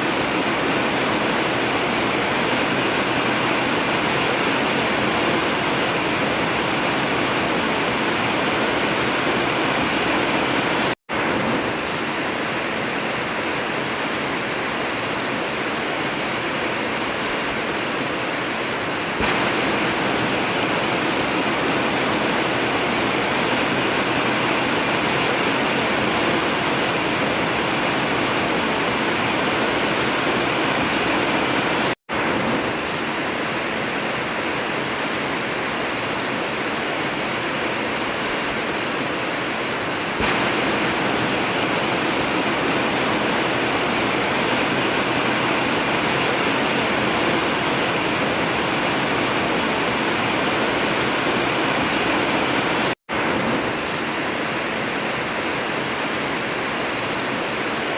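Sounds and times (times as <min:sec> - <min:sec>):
heavy rain on a tin roof: 0:00.0 - 0:57.9.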